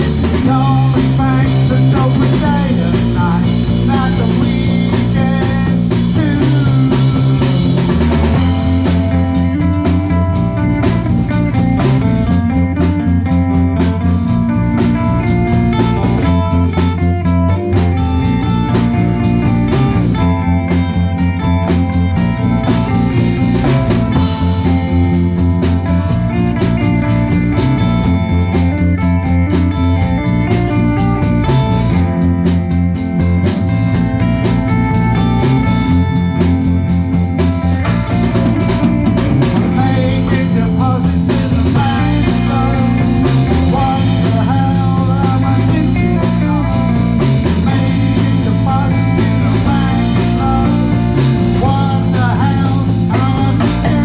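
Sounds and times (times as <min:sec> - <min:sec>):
bass guitar: 0:00.0 - 0:54.0
drum kit beat: 0:00.0 - 0:54.0
electric guitar: 0:00.0 - 0:54.0.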